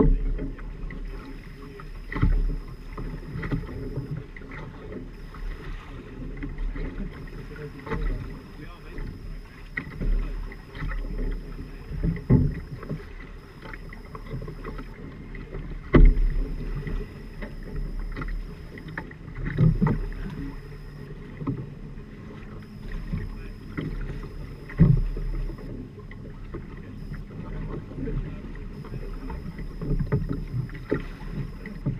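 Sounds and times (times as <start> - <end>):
water washing past hull: 0.0 - 31.9
waves slapping hull: 0.0 - 31.9.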